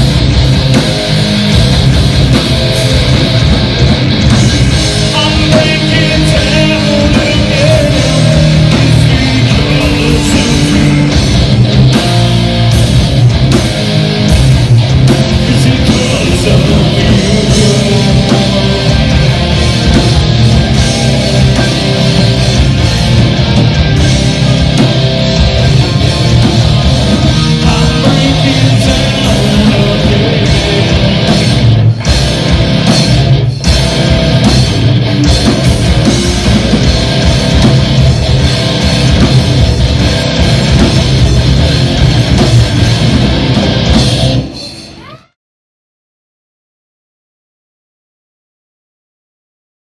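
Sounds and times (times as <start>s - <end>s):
drum kit: 0.0s - 45.2s
bass guitar: 0.0s - 45.4s
distorted electric guitars: 0.0s - 45.4s.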